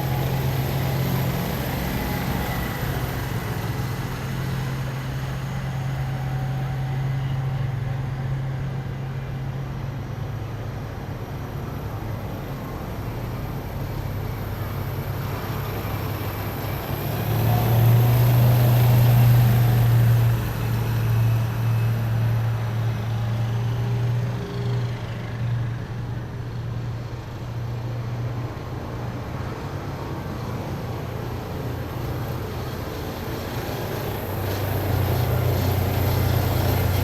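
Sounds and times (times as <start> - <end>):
heavy military vehicles driving past: 0.0 - 37.0.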